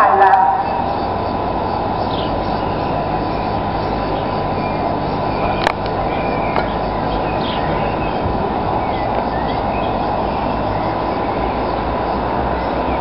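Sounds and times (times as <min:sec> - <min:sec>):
train rumbling slowly: 0:00.0 - 0:13.0
birds chirping faintly: 0:00.1 - 0:13.0.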